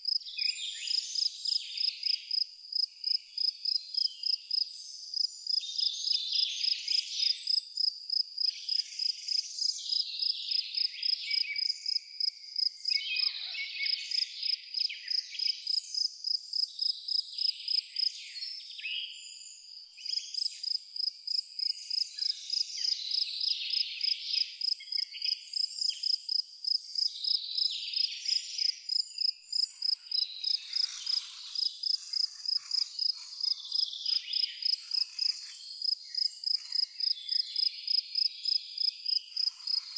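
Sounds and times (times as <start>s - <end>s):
cricket chirping: 0.0s - 13.3s, 14.1s - 18.6s, 19.2s - 39.9s
high insect or bird calls: 0.0s - 39.9s.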